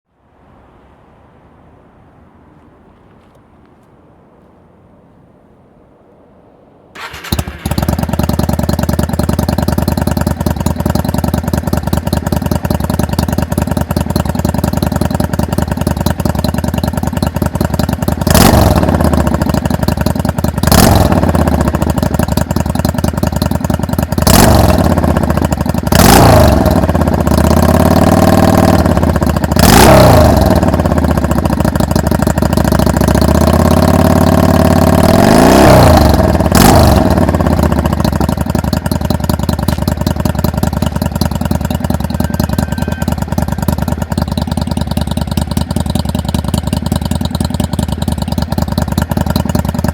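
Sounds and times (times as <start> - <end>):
motorcycle engine idling and revving: 7.0 - 49.9.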